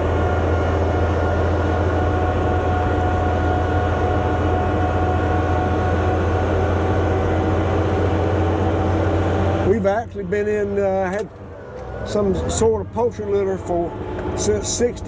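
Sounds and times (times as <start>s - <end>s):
heavy machine engine droning: 0.0s - 15.0s
steady whine: 0.0s - 15.0s.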